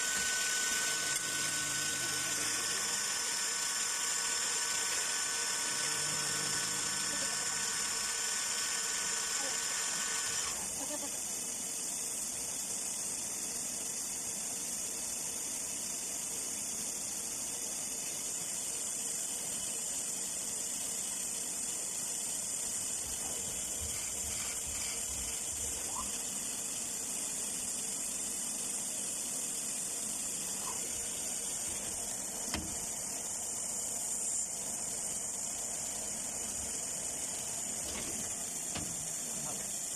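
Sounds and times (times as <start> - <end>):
lathe high-pitched hiss: 0.0 - 39.9.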